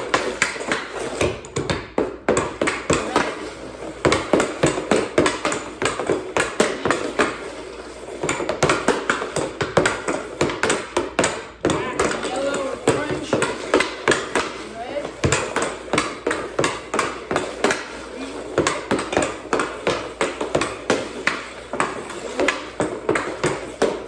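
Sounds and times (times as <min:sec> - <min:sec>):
hockey stick and puck clacking: 0:00.0 - 0:24.0.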